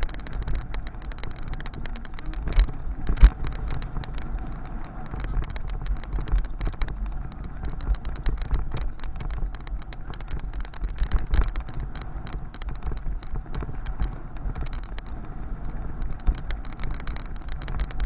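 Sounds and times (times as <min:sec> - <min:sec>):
bicycle rattling clicks: 0:00.0 - 0:18.0
road and wind rumble: 0:00.0 - 0:18.0.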